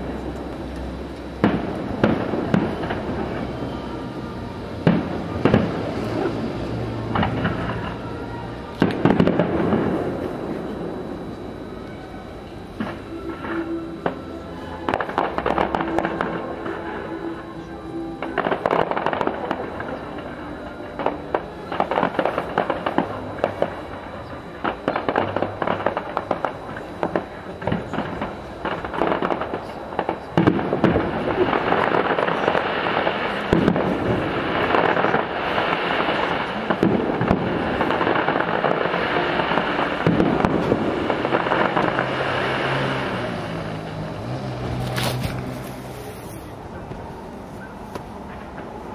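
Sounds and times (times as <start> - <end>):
distant fireworks bangs and crackles: 0.0 - 48.9.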